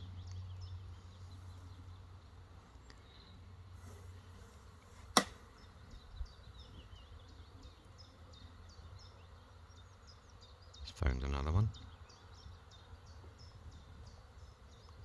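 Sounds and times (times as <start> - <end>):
small bird singing: 0.0 - 15.0.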